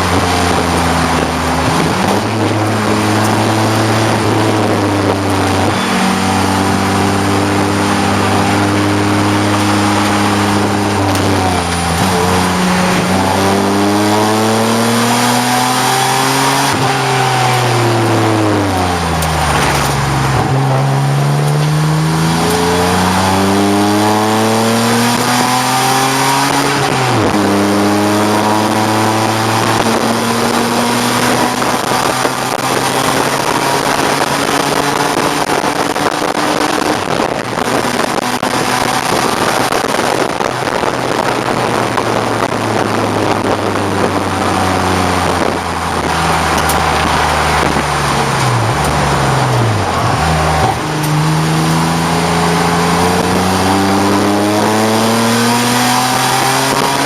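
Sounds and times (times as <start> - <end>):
race car engine accelerating: 0.0 - 57.0
road and wind noise: 0.0 - 57.0.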